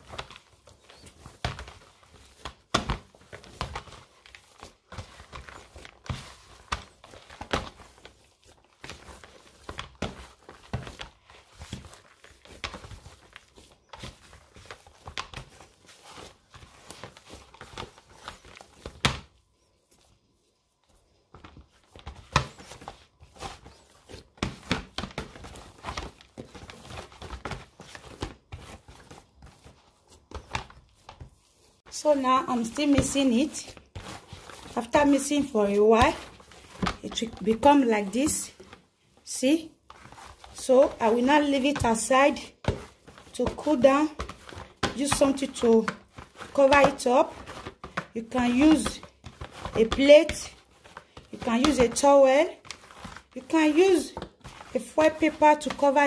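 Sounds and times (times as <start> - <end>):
dough being mixed in bowl: 0.0 - 56.0.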